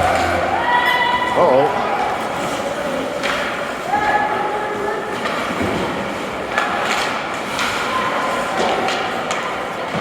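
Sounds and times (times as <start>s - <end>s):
faint crowd voices: 0.0s - 10.0s.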